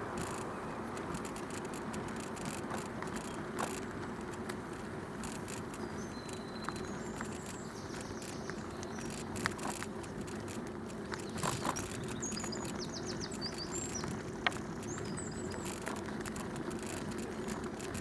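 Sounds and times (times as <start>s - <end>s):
bicycle tyres rolling on path: 0.0s - 18.0s
small clicks and crunches: 0.0s - 18.0s.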